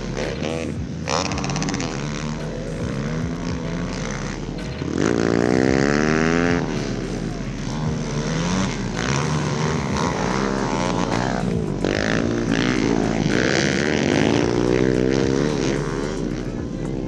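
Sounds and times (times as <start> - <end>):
pit bike engines revving: 0.0 - 17.0.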